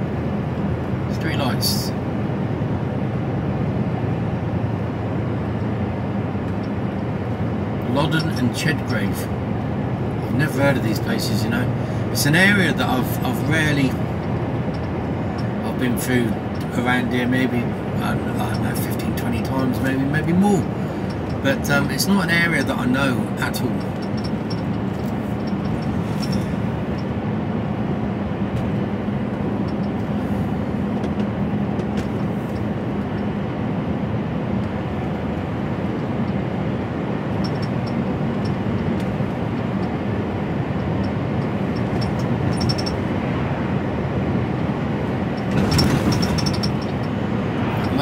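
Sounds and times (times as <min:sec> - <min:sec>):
lorry engine and road noise: 0:00.0 - 0:48.0.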